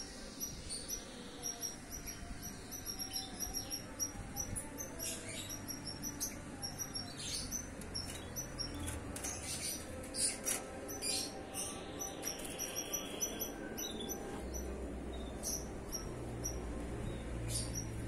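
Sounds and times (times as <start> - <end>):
canary chirping: 0.0 - 18.0.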